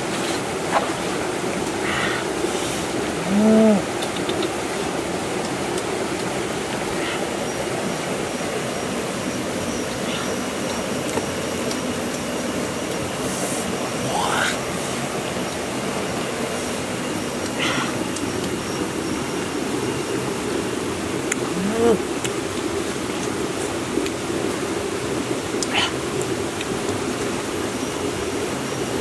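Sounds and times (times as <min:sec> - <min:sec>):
forest stream rushing: 0:00.0 - 0:29.0
low pitched hum: 0:00.0 - 0:29.0.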